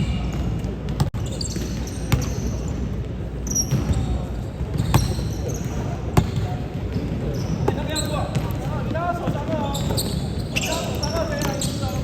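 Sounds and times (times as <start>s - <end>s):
background hubbub: 0.0s - 12.0s
sneakers squeaking on floor: 0.0s - 12.0s.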